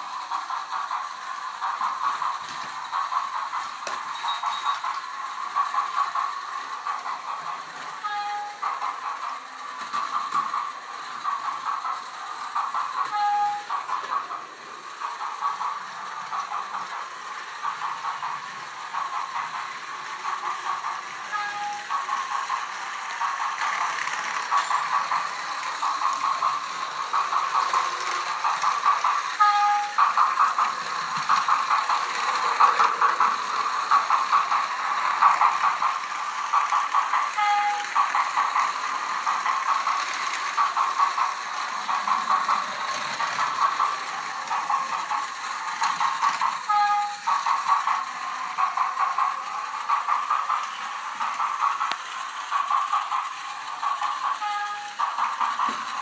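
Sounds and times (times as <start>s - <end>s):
toy train rattling: 0.0s - 56.0s.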